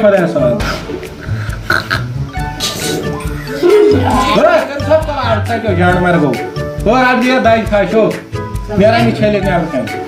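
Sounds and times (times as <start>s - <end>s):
background music with low beat: 0.0s - 10.0s.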